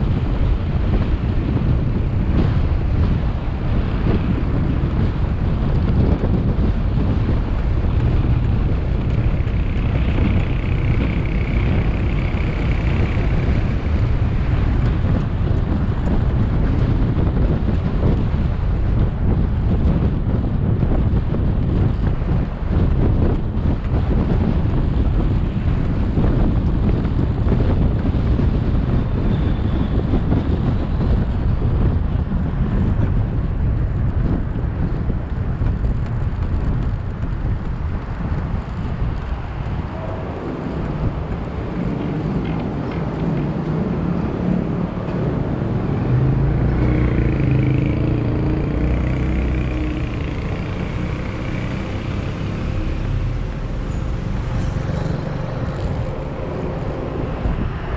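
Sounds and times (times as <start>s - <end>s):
engine hum: 0.0s - 57.9s
road noise: 0.0s - 57.9s
wind buffeting microphone: 0.0s - 57.9s.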